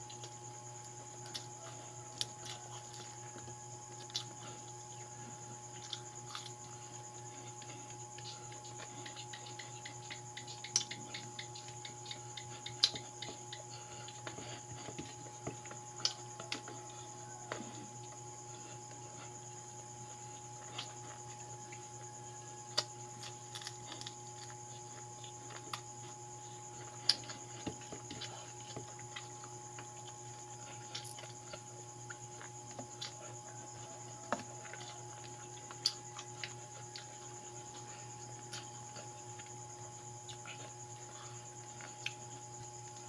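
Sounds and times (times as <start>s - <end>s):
person chewing food: 0.0s - 43.0s
steady low hum: 0.0s - 43.0s.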